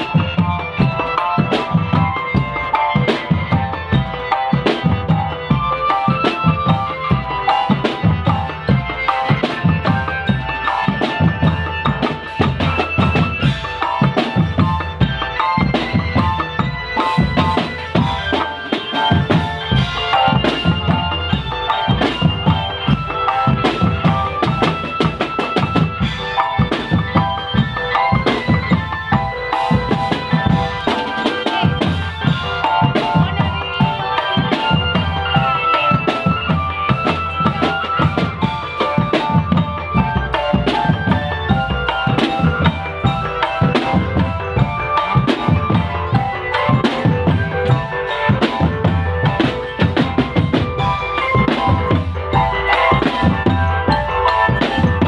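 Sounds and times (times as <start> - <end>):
marching drums beating: 0.0 - 55.0.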